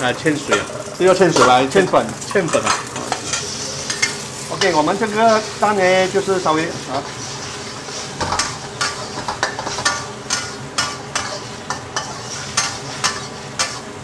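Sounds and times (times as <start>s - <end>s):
eggs sizzling in oil: 0.0s - 14.0s
metal spatula scraping wok: 0.5s - 14.0s.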